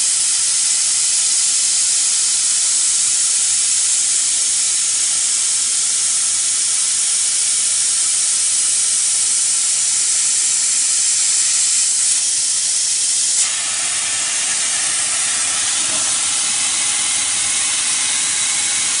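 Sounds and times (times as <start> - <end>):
laser cutter hiss: 0.0 - 19.0.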